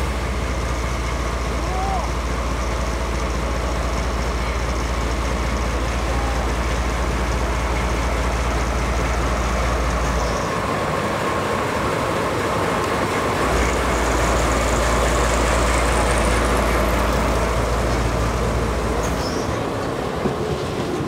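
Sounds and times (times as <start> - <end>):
locomotive diesel engine running: 0.0 - 21.0.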